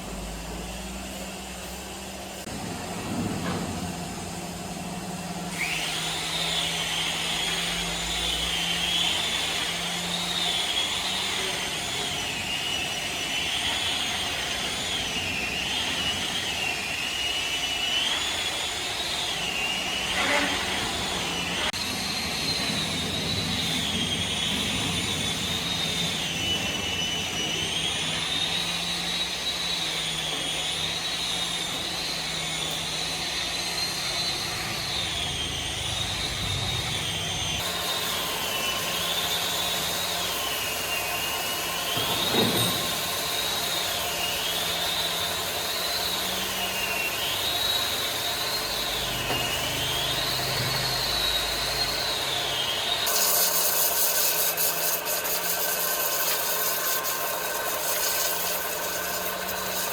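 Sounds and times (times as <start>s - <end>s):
power saw whining through timber: 0.0s - 59.9s.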